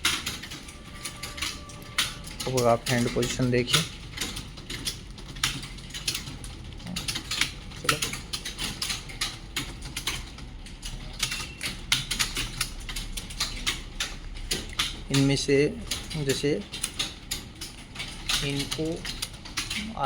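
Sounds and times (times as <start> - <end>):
keyboards clattering: 0.0 - 20.0.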